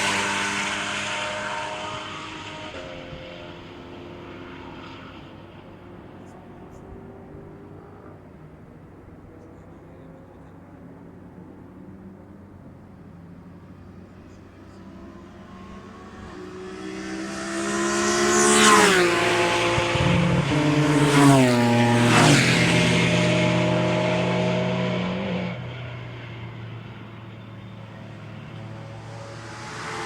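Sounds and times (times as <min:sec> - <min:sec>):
race cars passing at speed: 0:00.0 - 0:30.0.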